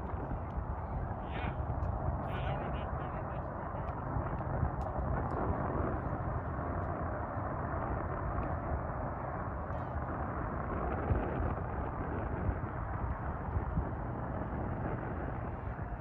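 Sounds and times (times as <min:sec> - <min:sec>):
jet engines roaring: 0:00.0 - 0:16.0
wind rumbling on microphone: 0:00.0 - 0:16.0.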